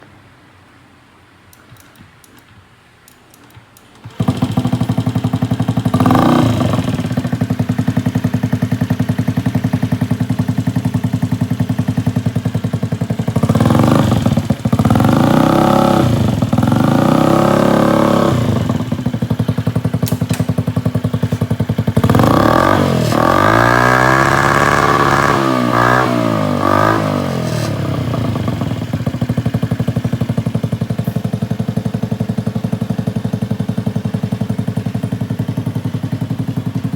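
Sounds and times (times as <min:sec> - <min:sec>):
scooter engine idling and revving: 0:04.0 - 0:36.9.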